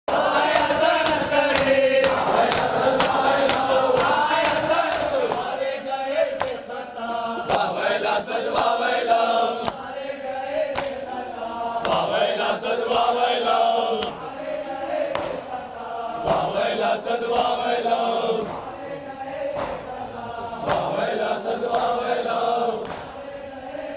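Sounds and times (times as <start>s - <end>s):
men chanting together: 0.1s - 23.9s.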